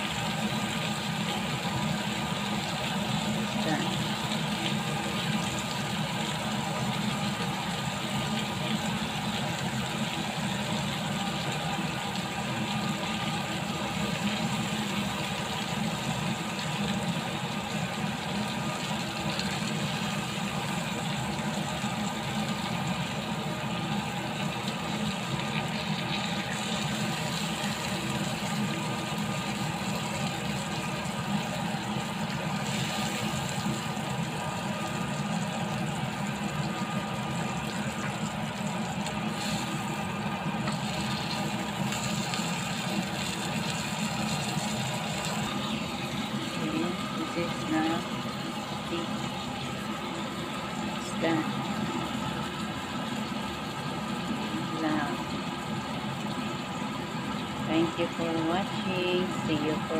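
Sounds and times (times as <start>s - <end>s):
meat sizzling in a grill pan: 0.0s - 59.9s.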